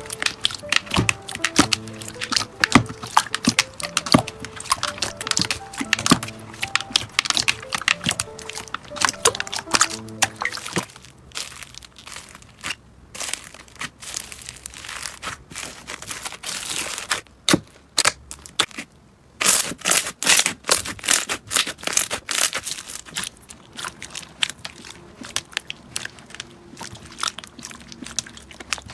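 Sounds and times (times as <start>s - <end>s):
slime crackling and popping: 0.0s - 28.9s.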